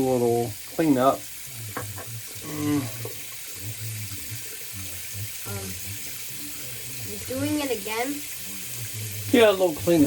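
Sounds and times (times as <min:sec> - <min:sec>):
water running from tap: 0:00.0 - 0:10.0.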